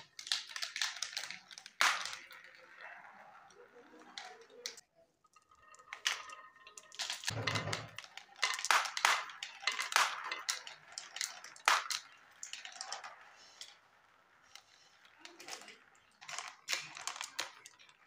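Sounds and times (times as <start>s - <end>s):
marbles clattering down plastic chutes: 0.0s - 4.8s, 5.5s - 18.0s.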